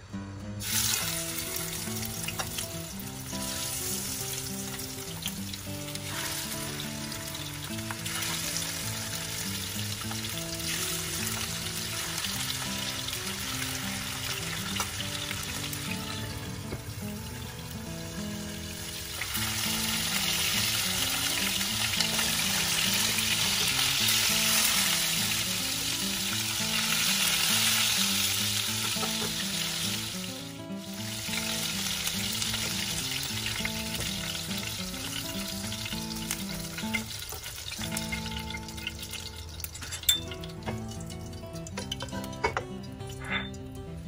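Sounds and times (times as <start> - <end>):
soft background music: 0.0 - 44.0
fish sizzling in oil: 0.6 - 43.9.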